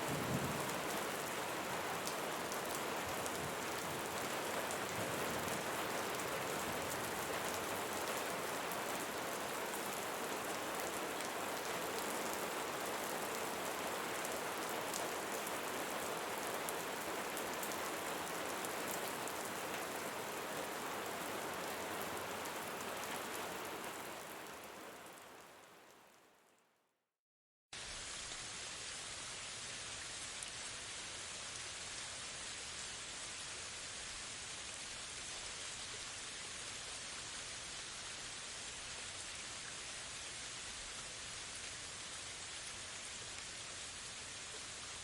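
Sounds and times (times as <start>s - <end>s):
steady rain falling: 0.0s - 26.6s, 27.8s - 45.0s.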